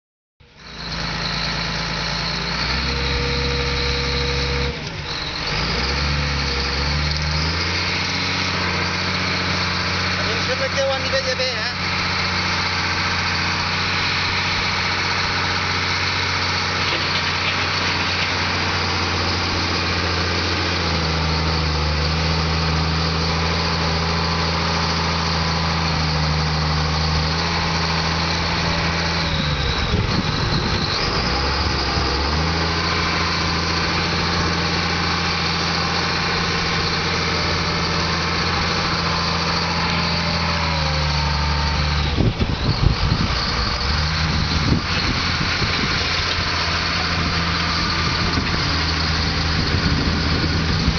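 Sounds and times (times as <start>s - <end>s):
diesel engine running: 0.4s - 50.9s.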